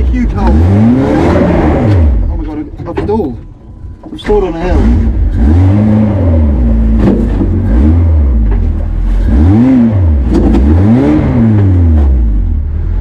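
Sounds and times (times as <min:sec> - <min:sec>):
car engine revving: 0:00.0 - 0:03.5, 0:04.1 - 0:13.0.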